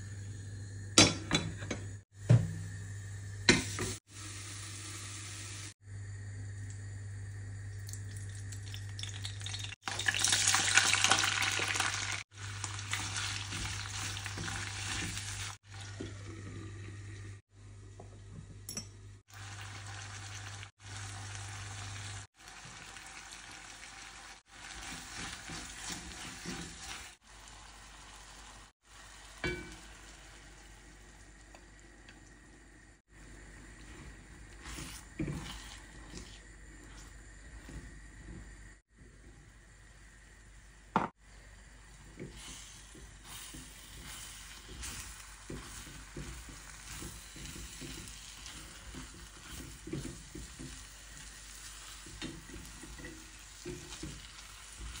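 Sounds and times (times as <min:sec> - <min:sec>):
food sizzling in a pan: 0:00.0 - 0:17.5, 0:19.2 - 0:55.0.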